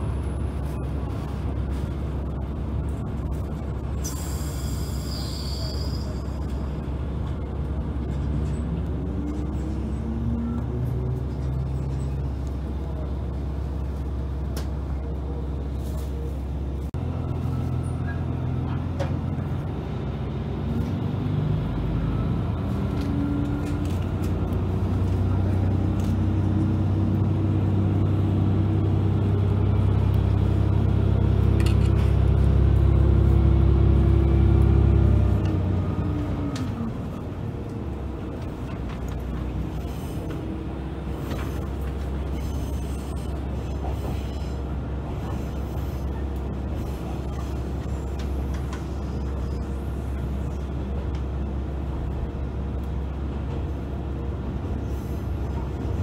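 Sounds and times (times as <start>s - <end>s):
diesel train engine accelerating: 0.0s - 56.0s.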